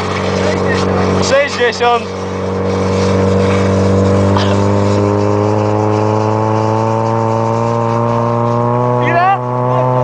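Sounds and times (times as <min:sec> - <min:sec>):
car engine running: 0:00.0 - 0:10.0
steady rushing noise: 0:00.0 - 0:10.0.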